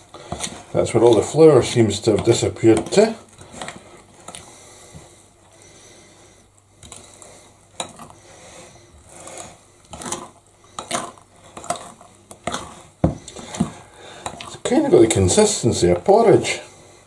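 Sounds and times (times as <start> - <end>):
spoon stirring batter: 0.0 - 16.8.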